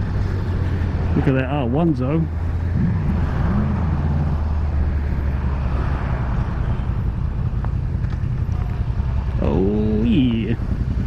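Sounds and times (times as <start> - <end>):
motorcycle engine hum: 0.0 - 11.0.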